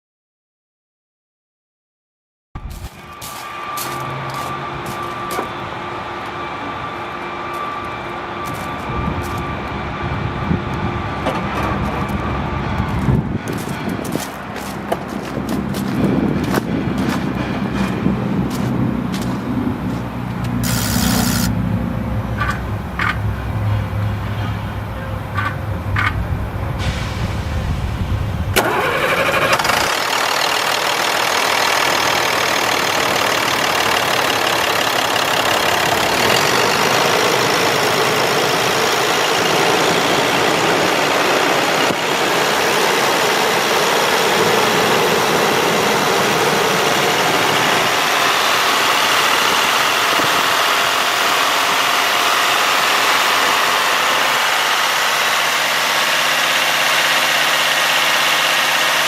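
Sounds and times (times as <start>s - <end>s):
diesel engine starting and idling: 2.8s - 59.0s.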